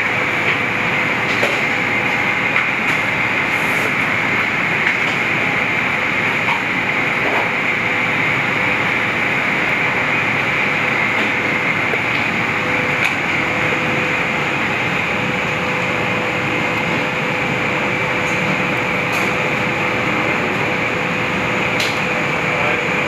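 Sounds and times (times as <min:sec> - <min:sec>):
kitchen ventilation rushing: 0:00.0 - 0:23.0.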